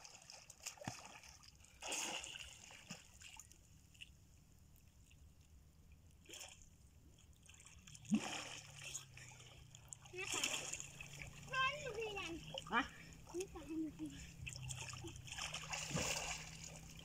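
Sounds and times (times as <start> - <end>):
water splashing from swimming: 0.0 - 4.2, 6.2 - 17.0.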